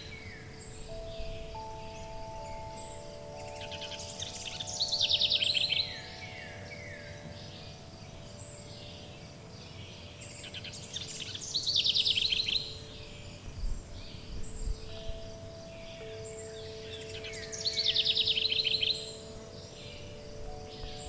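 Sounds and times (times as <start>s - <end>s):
chime tones ringing: 0.0s - 13.4s, 14.1s - 21.0s
songbird trilling: 0.0s - 21.0s.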